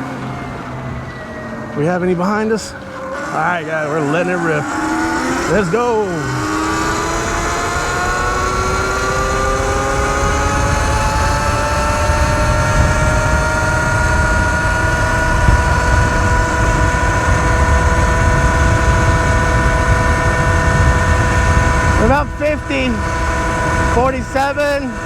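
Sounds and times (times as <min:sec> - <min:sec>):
electric motor whine: 0:00.0 - 0:25.0
wind buffeting microphone: 0:00.0 - 0:25.0.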